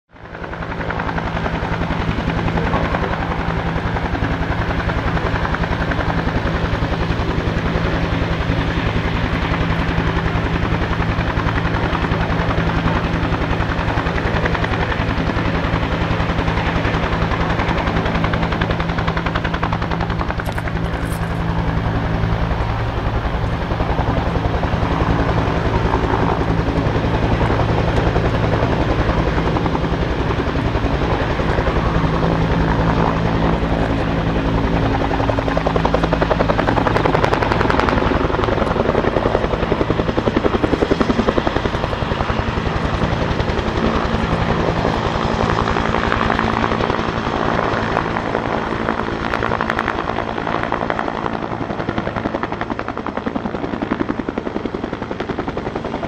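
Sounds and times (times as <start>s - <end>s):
helicopter engine hum: 0.1s - 56.0s
helicopter rotor beating: 0.2s - 56.0s.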